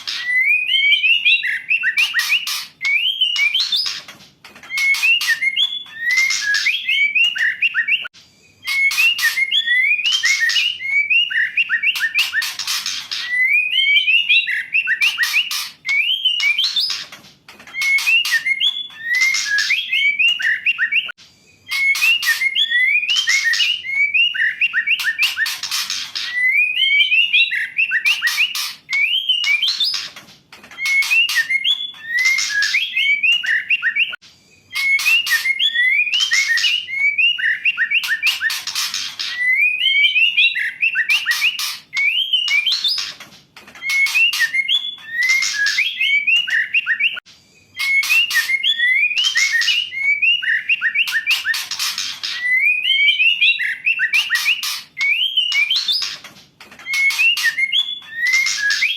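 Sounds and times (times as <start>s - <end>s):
bird singing whistled notes: 0.0s - 4.0s, 4.6s - 17.1s, 17.7s - 30.1s, 30.8s - 43.2s, 43.8s - 56.2s, 56.8s - 58.9s.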